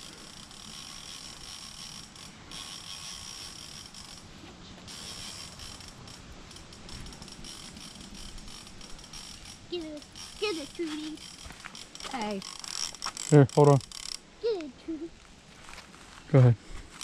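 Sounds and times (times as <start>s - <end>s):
fishing reel ratcheting click: 0.0s - 14.2s
fishing reel whir: 0.0s - 14.3s.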